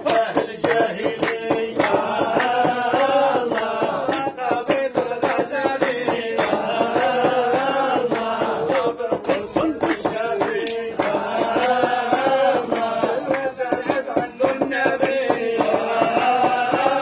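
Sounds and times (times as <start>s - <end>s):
men chanting together: 0.0s - 17.0s
steady beat of sharp strikes: 0.0s - 17.0s.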